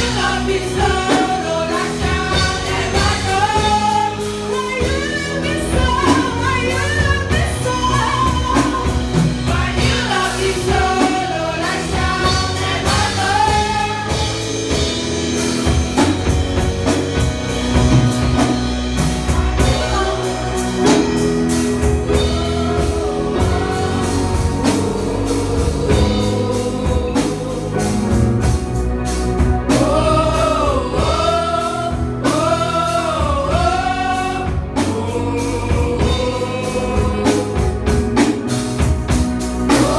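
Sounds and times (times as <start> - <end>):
gospel singing with band: 0.0 - 39.9.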